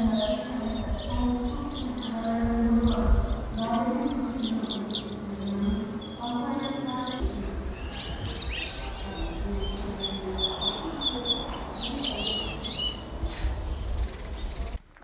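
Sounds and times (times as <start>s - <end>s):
songbirds chirping: 0.0s - 14.9s.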